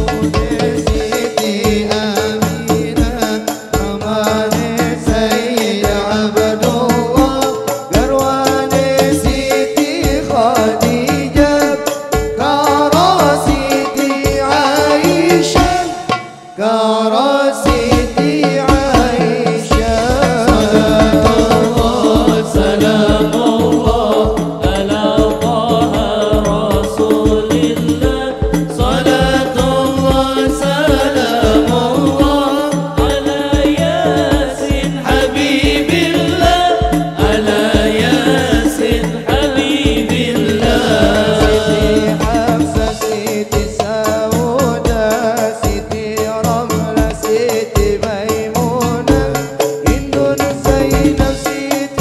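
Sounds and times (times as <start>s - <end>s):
frame drums with bass strokes: 0.0s - 16.6s, 17.6s - 52.0s
men singing through microphones: 0.0s - 52.0s.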